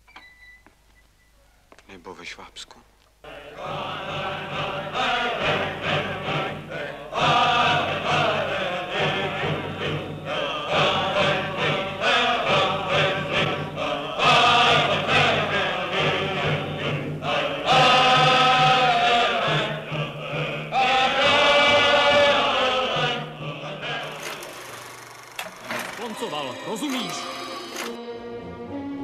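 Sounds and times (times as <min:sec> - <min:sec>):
choir chanting: 0:03.2 - 0:24.9, 0:25.6 - 0:29.0.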